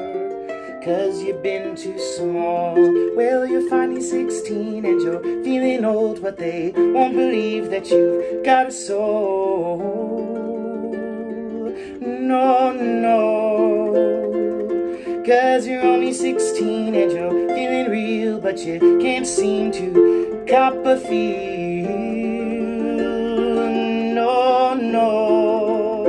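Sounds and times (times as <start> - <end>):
harp plucked: 0.0 - 26.0
man singing with vibrato: 0.0 - 26.0.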